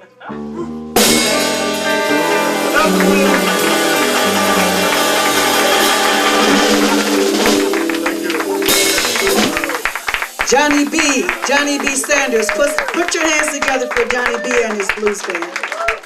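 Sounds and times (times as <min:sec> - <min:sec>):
live blues band playing: 0:00.3 - 0:13.8.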